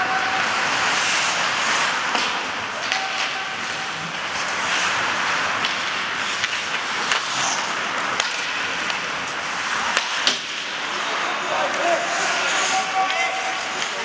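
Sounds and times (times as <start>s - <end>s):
sticks and puck clacking: 0.0s - 14.0s
skates hissing on ice: 0.1s - 14.0s.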